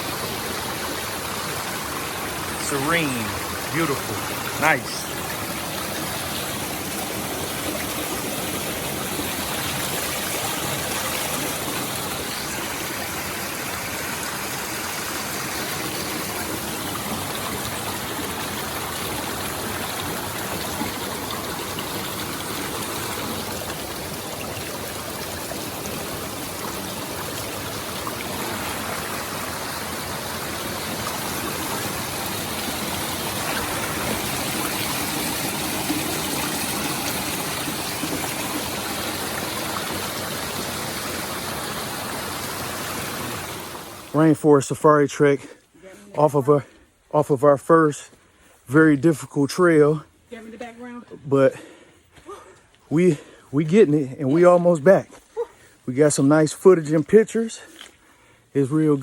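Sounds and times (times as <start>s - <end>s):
stream water running over rocks: 0.0s - 50.1s.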